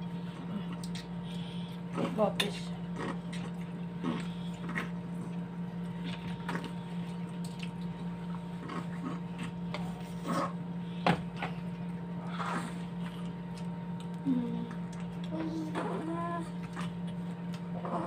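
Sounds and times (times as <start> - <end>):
chewing with squishy mouth noises: 0.0 - 17.9
steady low hum: 0.0 - 18.0.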